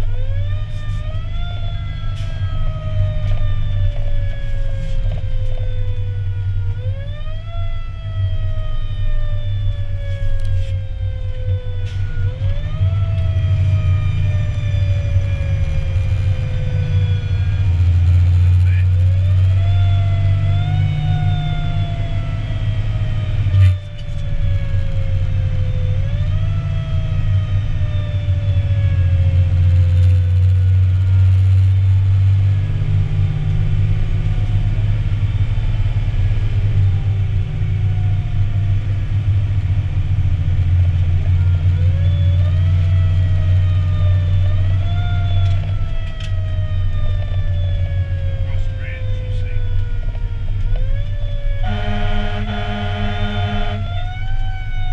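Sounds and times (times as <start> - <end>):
fire engine engine droning: 0.0 - 54.9.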